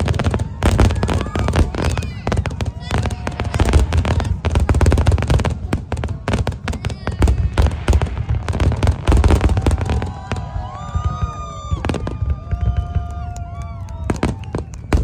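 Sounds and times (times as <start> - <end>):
fireworks crackling bursts: 0.0 - 15.0
fireworks deep booms: 0.0 - 15.0
whistling fireworks: 0.0 - 15.0.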